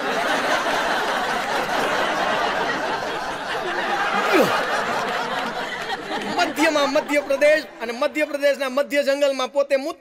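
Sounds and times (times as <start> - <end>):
audience laughing: 0.0 - 8.2.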